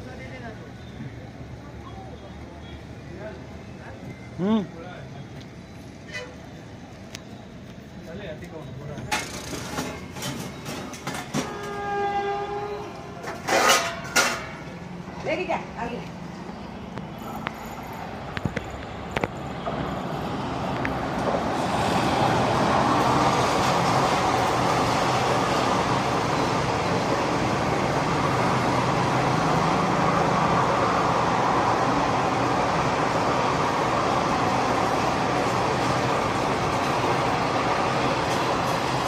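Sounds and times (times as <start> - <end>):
train wheels rumbling on rail: 5.4 - 39.0.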